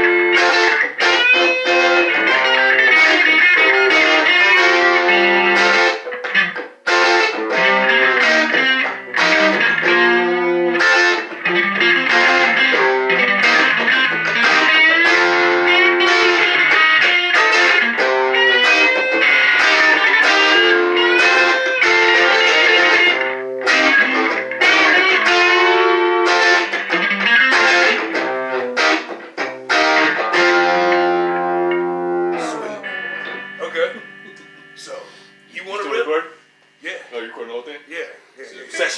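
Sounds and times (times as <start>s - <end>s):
electric guitar chords and bent notes: 0.0s - 35.6s.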